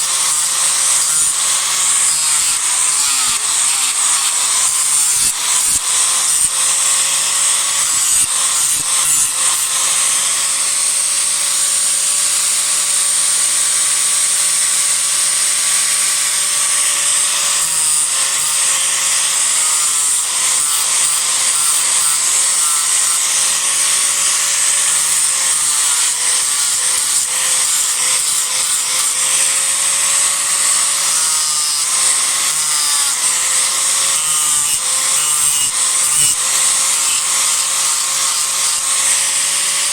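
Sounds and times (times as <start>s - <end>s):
disc grinder cutting wood: 0.0s - 39.9s.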